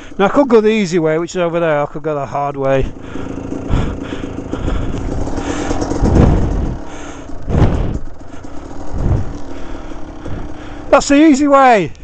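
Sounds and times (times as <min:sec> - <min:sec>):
dirt bike engine revving: 0:00.0 - 0:01.6, 0:02.5 - 0:12.0.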